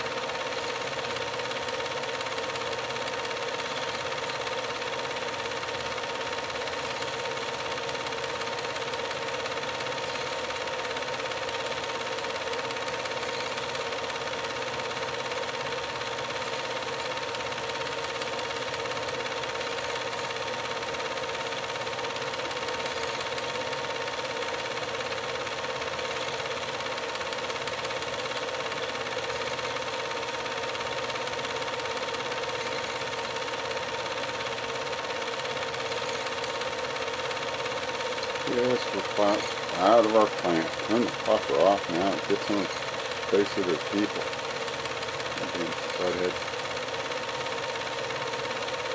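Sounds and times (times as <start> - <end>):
constant mid-pitched whine: 0.0 - 48.9
mechanical running noise: 0.0 - 48.9.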